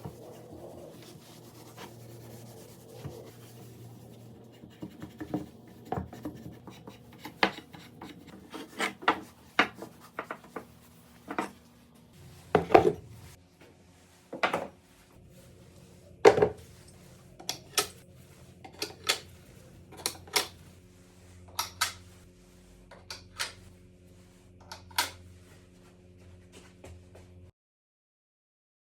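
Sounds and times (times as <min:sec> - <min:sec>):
faint steady hum: 0:00.0 - 0:27.4.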